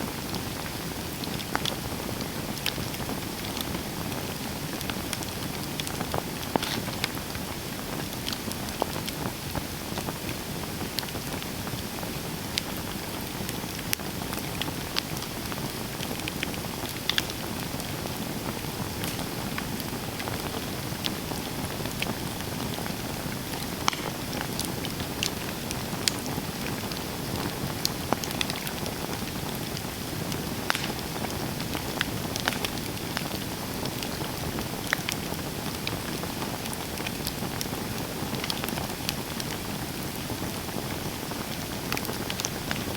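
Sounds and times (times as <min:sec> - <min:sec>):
campfire hissing and crackling: 0:00.0 - 0:42.9.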